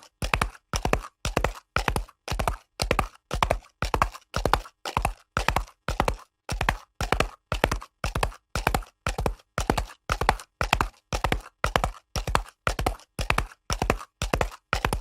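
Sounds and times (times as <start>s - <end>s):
horse hooves galloping on concrete: 0.0s - 15.0s.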